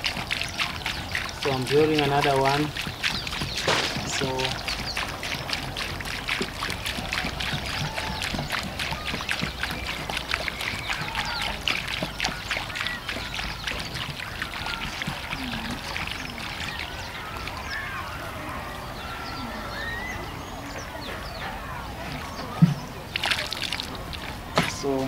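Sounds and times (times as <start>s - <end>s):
water glugging and splashing: 0.0s - 25.0s.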